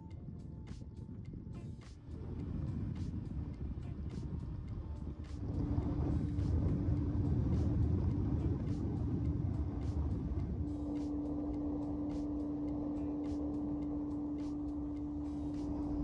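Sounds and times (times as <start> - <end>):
boat engine hum: 0.0 - 16.0
hull rumbling on water: 0.0 - 16.0
wind: 0.0 - 16.0.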